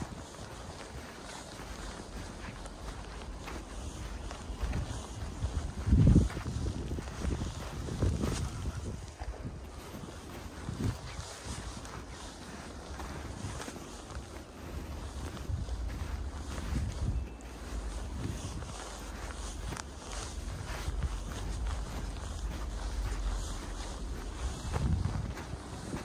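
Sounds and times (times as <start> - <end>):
footsteps in snow: 0.0 - 26.0
wind buffeting microphone: 0.0 - 26.0.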